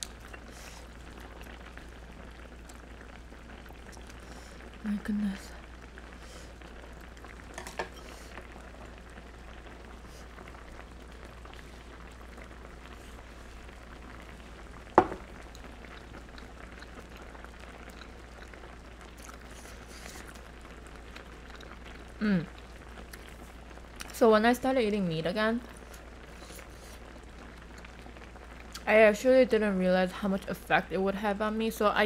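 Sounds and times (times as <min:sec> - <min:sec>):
stew bubbling in a hot pot: 0:00.0 - 0:32.0.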